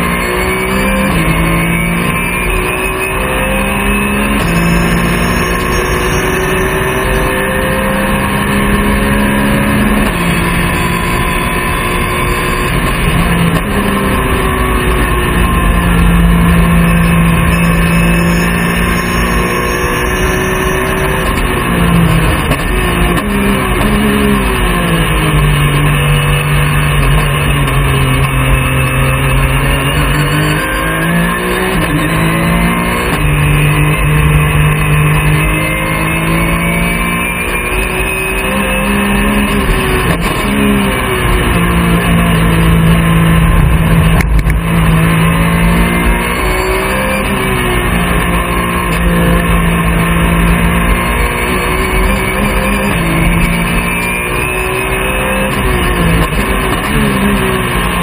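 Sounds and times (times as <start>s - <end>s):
race car engine at high revs: 0.0s - 58.0s
wind and road noise: 0.0s - 58.0s.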